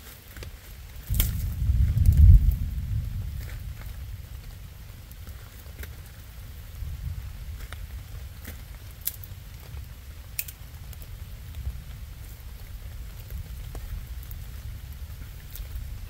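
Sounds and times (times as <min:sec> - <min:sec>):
campfire rumble: 0:00.0 - 0:16.0
rain pattering: 0:00.0 - 0:16.0
fire ticks and pops: 0:00.2 - 0:16.0.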